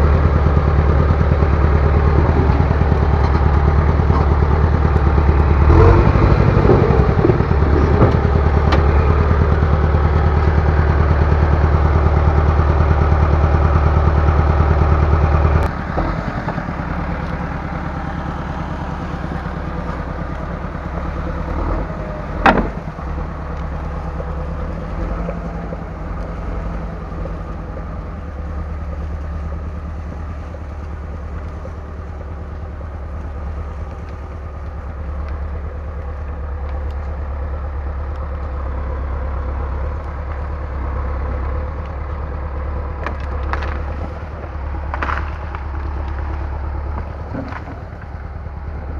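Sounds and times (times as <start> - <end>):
heavy equipment engine running: 0.0 - 48.9.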